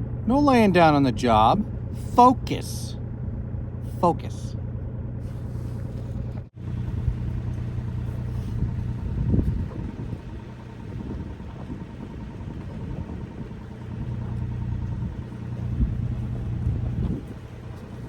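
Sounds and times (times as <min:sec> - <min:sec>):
mini excavator diesel engine running: 0:00.0 - 0:18.0.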